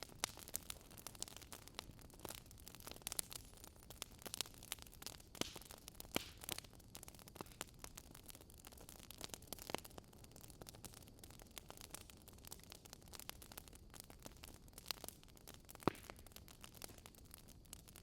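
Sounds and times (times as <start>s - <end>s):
faint steady hiss: 0.0s - 18.0s
wood fire crackling: 0.0s - 18.0s.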